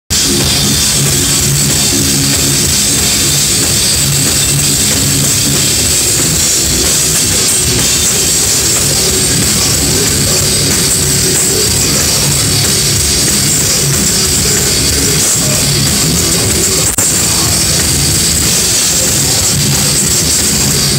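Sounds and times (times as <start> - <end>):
heavy metal band playing live: 0.1 - 20.9.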